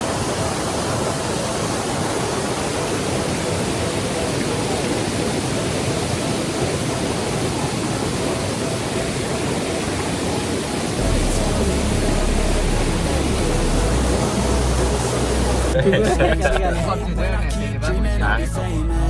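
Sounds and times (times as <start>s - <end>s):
waterfall roaring: 0.0s - 17.4s.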